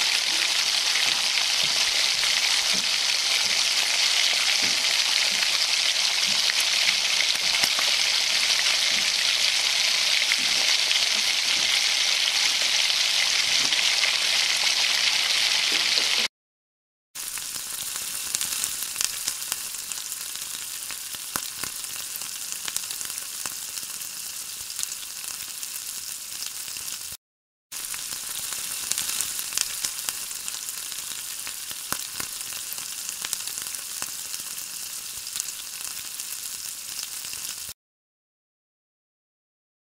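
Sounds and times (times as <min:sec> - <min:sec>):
fish sizzling in a pan: 0:00.0 - 0:16.3, 0:17.2 - 0:37.8.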